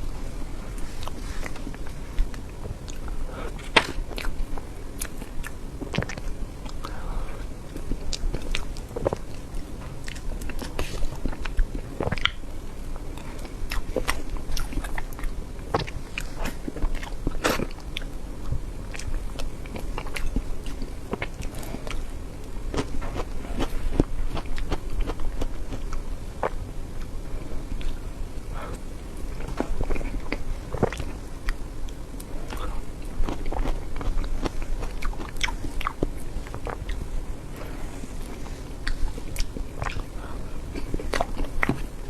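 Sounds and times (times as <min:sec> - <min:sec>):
mouth chewing soft cake: 0:00.0 - 0:42.0.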